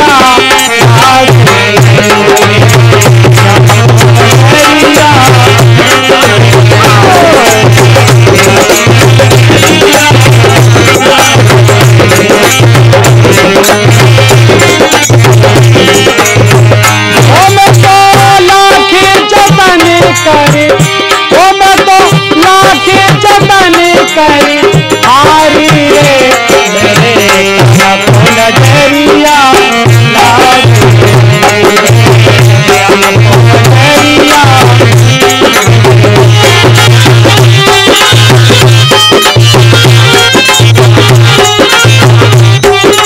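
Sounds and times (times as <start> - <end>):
dholak drum: 0.0 - 43.0
harmonium playing melody: 0.0 - 43.0.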